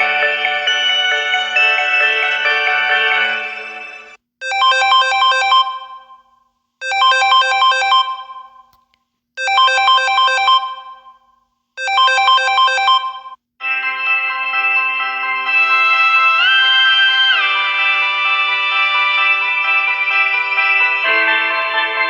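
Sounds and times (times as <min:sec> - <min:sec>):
bright bell-like ringtone phrase: 0:00.0 - 0:08.7, 0:09.4 - 0:11.2, 0:11.8 - 0:22.0
phone ringtone: 0:00.0 - 0:08.7, 0:09.4 - 0:22.0.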